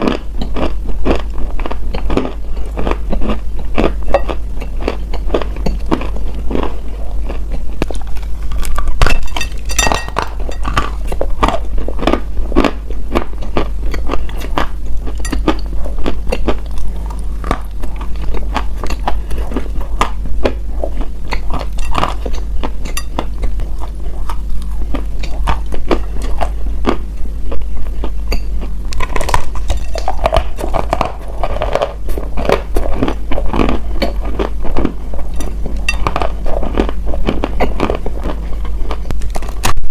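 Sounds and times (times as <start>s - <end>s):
chewing crunchy earth: 0.0s - 39.9s
steady low hum: 0.0s - 39.9s.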